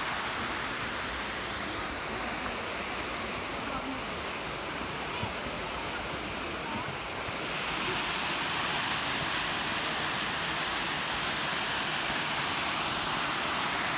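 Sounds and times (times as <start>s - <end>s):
waterfalls rushing into pools: 0.0s - 13.9s.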